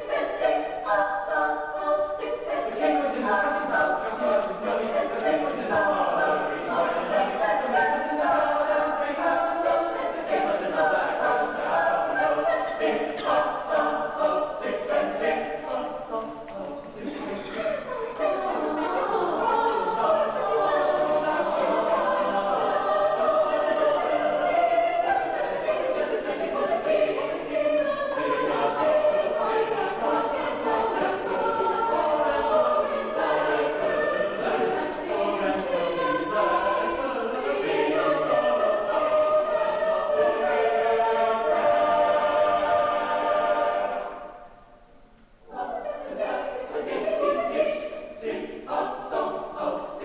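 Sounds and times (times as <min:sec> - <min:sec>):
choir singing: 0:00.0 - 0:50.0.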